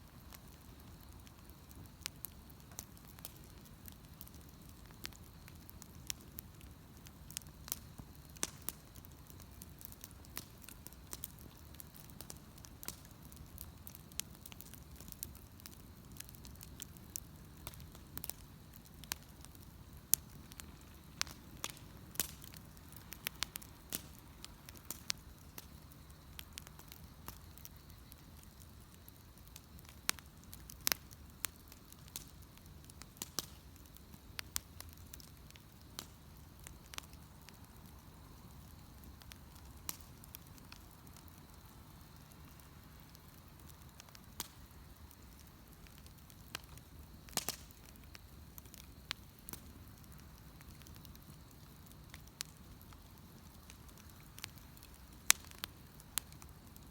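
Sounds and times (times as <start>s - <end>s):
bonfire crackling and popping: 0.0s - 56.9s.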